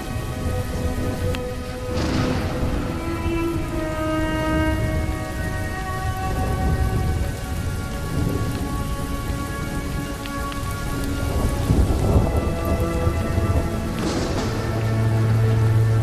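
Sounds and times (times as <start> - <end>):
slowed reverb-heavy music: 0.0 - 16.0
steady rain: 0.0 - 16.0
thunder rolling: 0.0 - 16.0.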